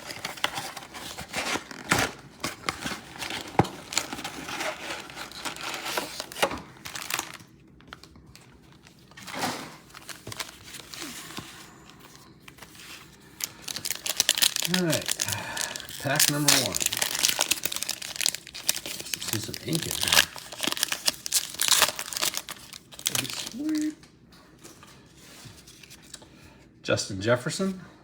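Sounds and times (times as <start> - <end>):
plastic wrapping crinkling and tearing: 0.0 - 24.1, 25.6 - 26.2.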